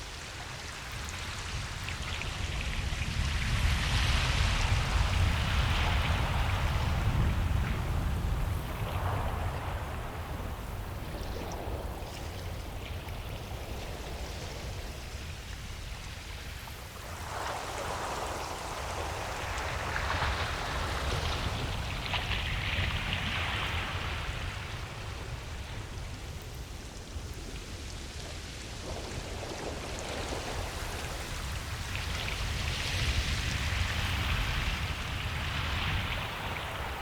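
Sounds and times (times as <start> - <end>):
ocean waves on beach: 0.0 - 37.0.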